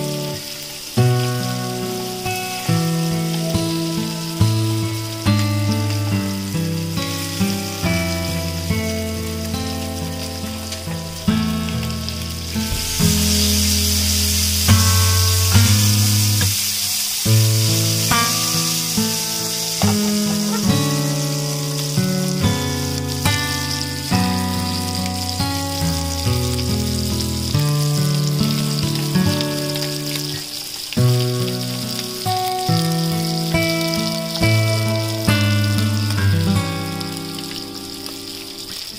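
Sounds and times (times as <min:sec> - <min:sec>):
oil sizzling in a pan: 0:00.0 - 0:38.9
slow background music: 0:00.0 - 0:38.9.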